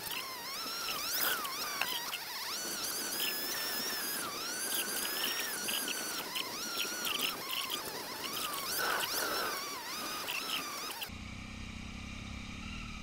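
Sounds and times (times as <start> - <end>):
high warbling tones: 0.0 - 11.1
motorcycle engine droning: 0.0 - 13.0.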